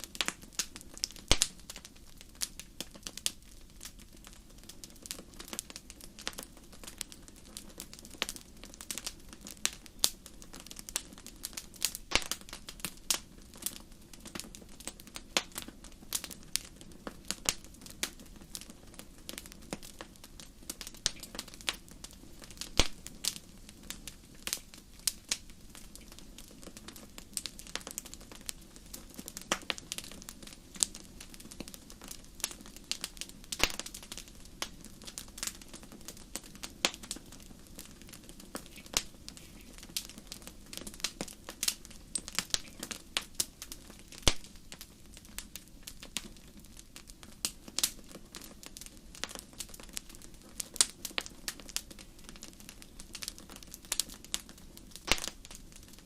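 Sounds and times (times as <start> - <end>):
low rush of flames: 0.0 - 56.0
wood fire crackling: 0.0 - 56.0.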